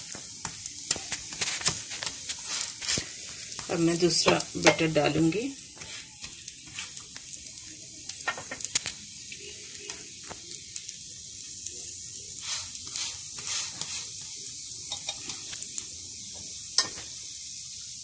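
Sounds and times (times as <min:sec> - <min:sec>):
crackling pops: 0:00.0 - 0:04.9, 0:05.7 - 0:15.9
pancake sizzling on hot pan: 0:00.0 - 0:18.0.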